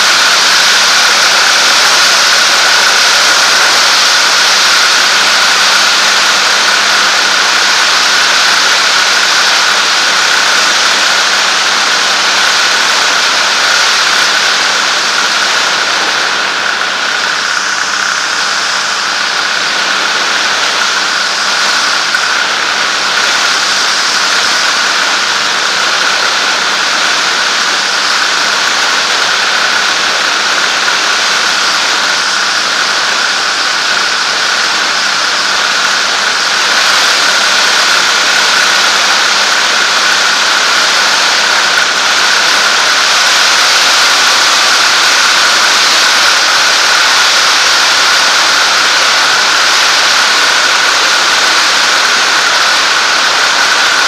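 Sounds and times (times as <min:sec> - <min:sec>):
rush of airflow: 0:00.0 - 0:54.0.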